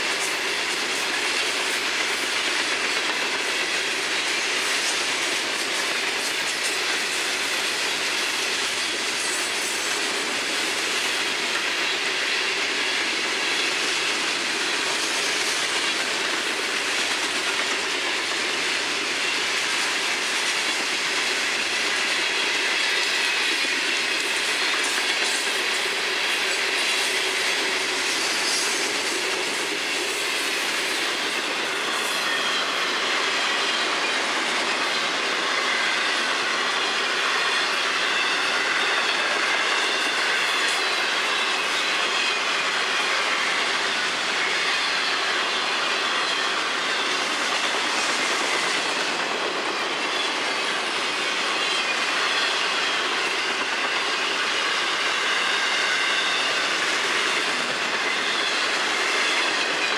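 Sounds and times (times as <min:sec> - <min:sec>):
freight train rolling on rails: 0:00.0 - 0:59.9.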